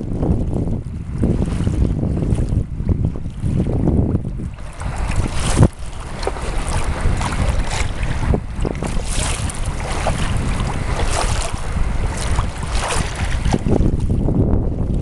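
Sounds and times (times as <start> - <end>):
waves slapping against hull: 0.0 - 15.0
wind buffeting microphone: 0.0 - 15.0.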